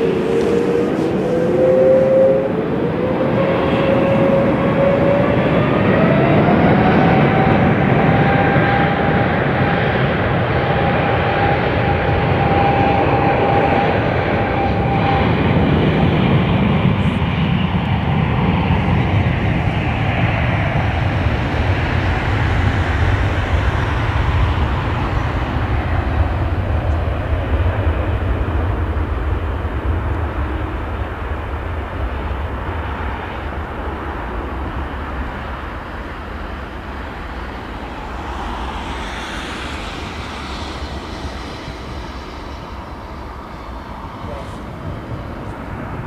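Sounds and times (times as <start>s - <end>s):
jet engines at takeoff thrust: 0.0s - 46.0s.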